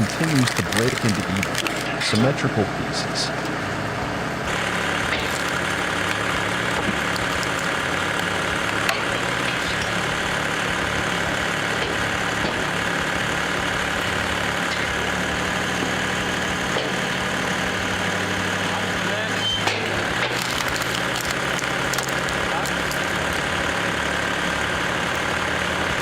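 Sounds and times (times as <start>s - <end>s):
log splitter engine running: 0.0s - 26.0s.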